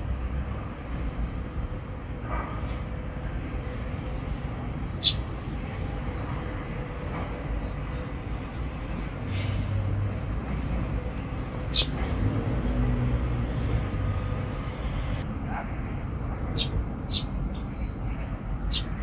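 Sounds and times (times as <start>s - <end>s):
sparrows chirping: 2.6s - 19.0s.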